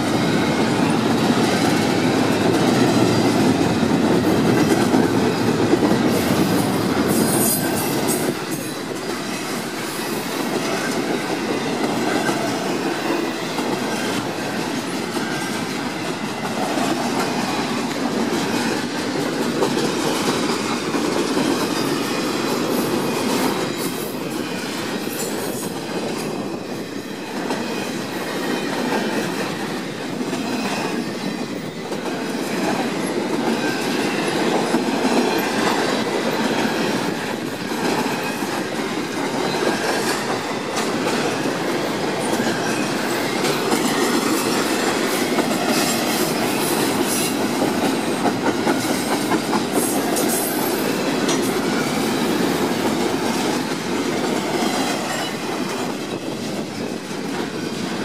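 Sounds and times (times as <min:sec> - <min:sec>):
freight train wheels rumbling: 0:00.0 - 0:58.0
wheels clickety-clack: 0:00.0 - 0:58.0.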